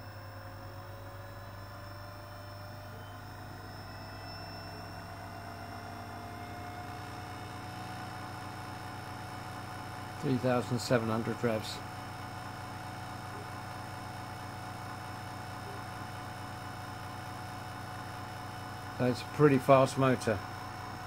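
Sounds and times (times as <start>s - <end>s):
electric motor whine: 0.0s - 10.2s, 11.8s - 21.0s.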